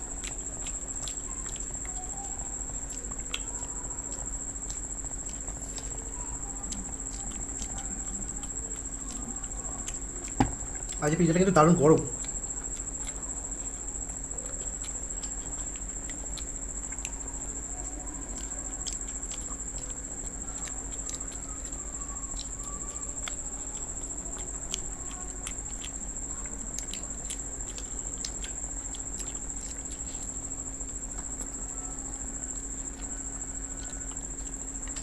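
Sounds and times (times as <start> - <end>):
people chewing food: 0.0 - 35.0.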